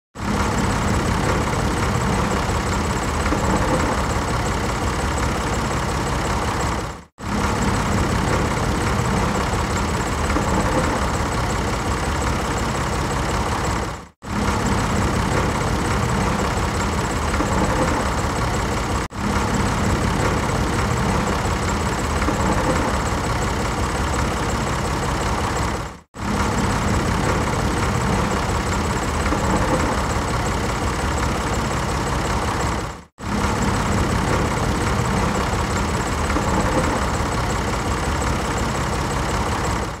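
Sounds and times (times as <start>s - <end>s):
tractor engines running: 0.2s - 40.0s.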